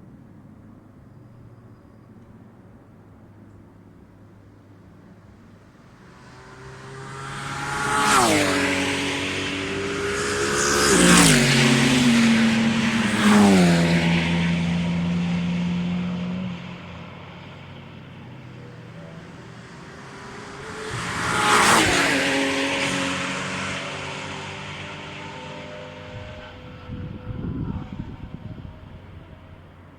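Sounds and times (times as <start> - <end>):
race cars passing at speed: 4.5 - 29.9.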